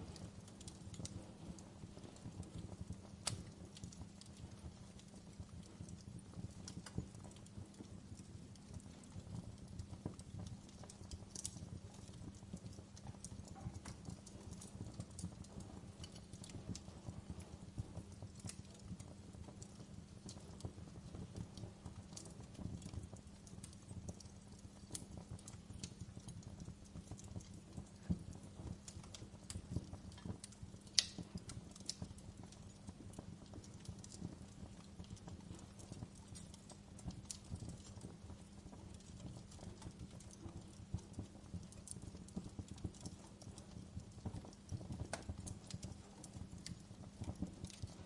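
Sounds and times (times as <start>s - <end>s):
sharp pops from fire: 0.0s - 48.0s
wood fire crackling: 0.0s - 48.0s.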